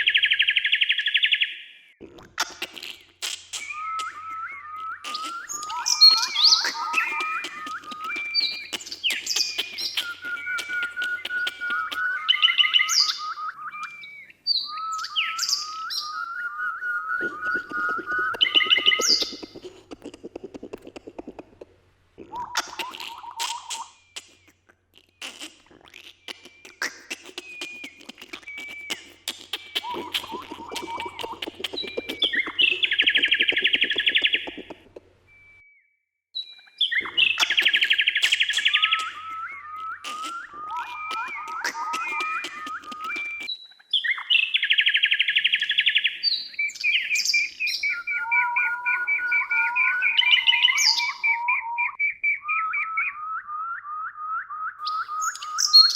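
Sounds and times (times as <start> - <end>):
birds singing and chirping: 0.0 - 21.6, 22.2 - 35.5, 36.4 - 55.9.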